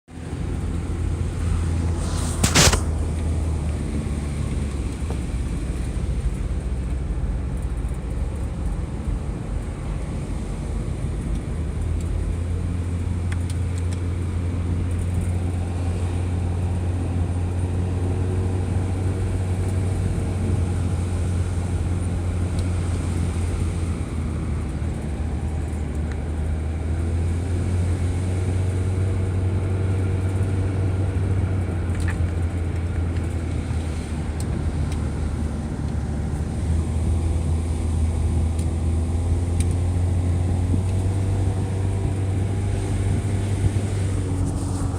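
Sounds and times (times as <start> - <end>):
engine running with low drone: 0.1 - 44.9.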